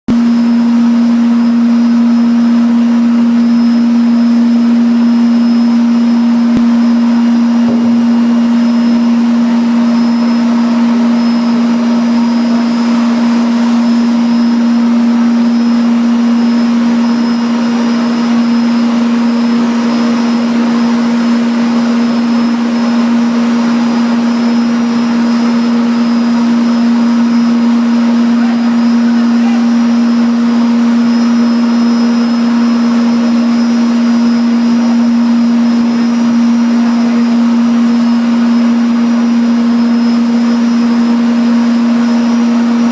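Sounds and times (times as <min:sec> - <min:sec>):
industrial machinery drone: 0:00.0 - 0:42.9
fan-like rushing noise: 0:00.2 - 0:42.9.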